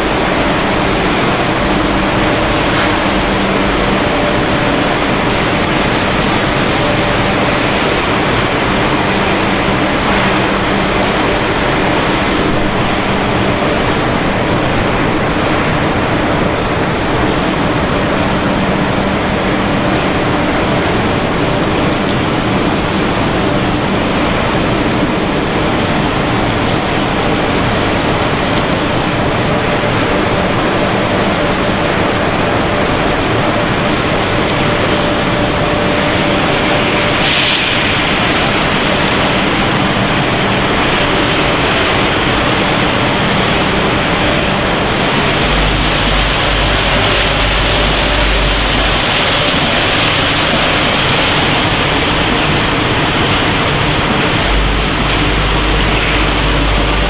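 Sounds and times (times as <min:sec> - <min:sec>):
mesh belt conveyor running: 0:00.0 - 0:57.0
production line machinery: 0:00.0 - 0:57.0.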